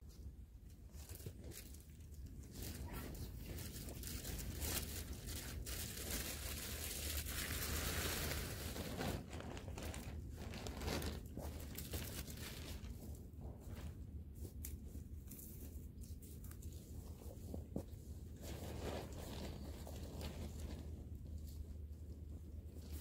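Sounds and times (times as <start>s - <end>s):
crinkling and rustling: 0.1s - 23.0s.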